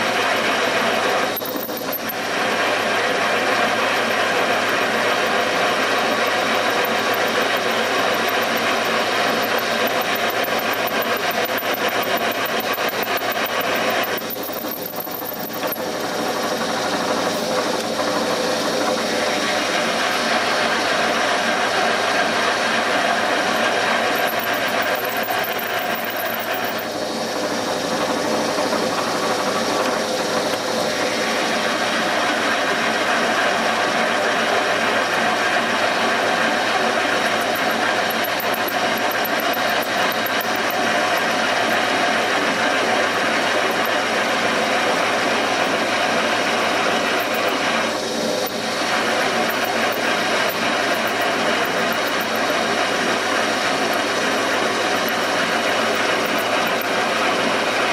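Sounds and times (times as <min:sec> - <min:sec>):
drill boring into metal: 0:00.0 - 0:57.9.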